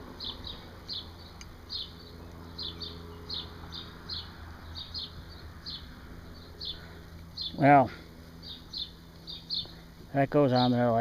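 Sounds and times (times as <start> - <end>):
small bird chirping: 0.0 - 10.8
steady low hum: 0.0 - 11.0.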